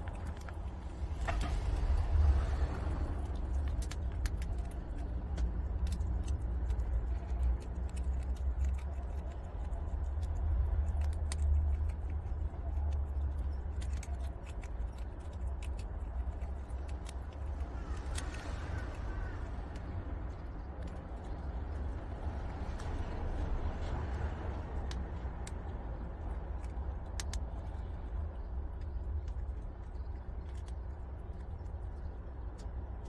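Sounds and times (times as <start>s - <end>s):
animals crunching treats: 0.0s - 33.0s
steady low rumble: 0.0s - 33.0s.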